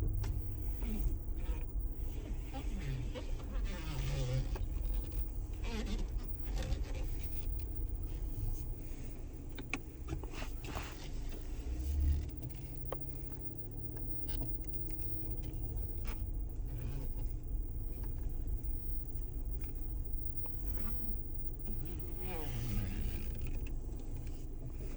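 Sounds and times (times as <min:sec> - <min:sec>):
light clicks and rattles: 0:00.0 - 0:24.9
low drone in car cabin: 0:00.0 - 0:24.9.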